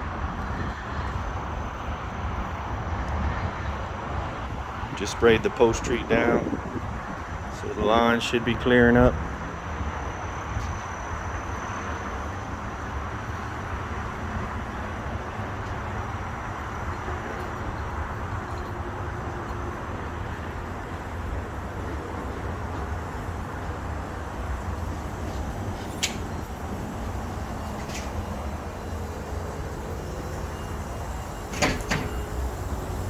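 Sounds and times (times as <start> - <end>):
engine running: 4.4 - 33.0
constant hiss: 4.8 - 33.0.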